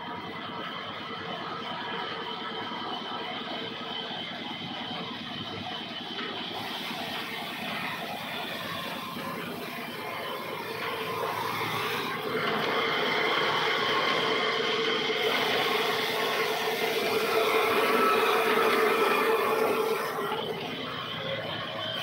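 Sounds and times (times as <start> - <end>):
band saw humming and whining: 0.0 - 22.0.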